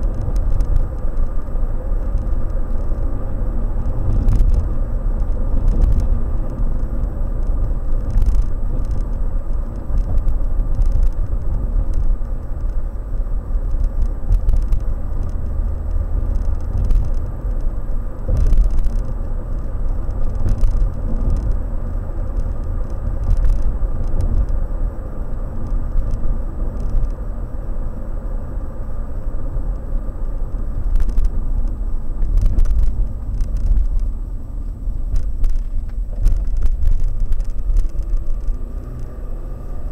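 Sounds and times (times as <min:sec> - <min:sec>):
light clicks and rattles: 0:00.0 - 0:27.2, 0:29.6 - 0:39.2
road and engine rumble: 0:00.0 - 0:39.9.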